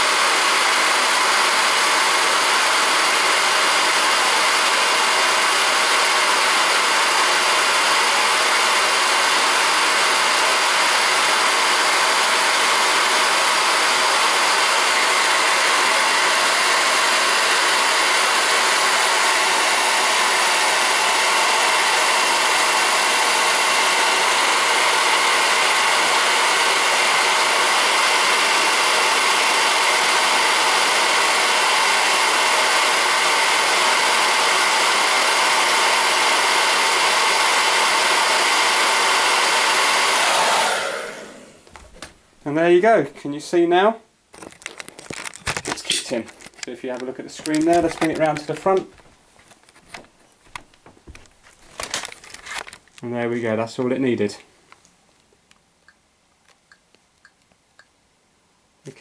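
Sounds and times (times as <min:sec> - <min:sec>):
hair dryer running: 0:00.0 - 0:42.1, 0:44.4 - 0:52.8.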